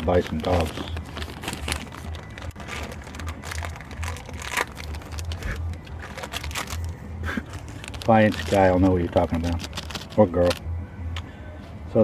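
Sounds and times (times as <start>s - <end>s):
packaging rustling: 0.0s - 10.6s.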